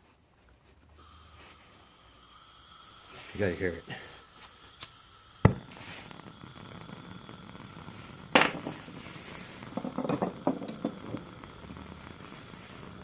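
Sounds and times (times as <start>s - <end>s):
torch hissing: 1.0s - 13.0s.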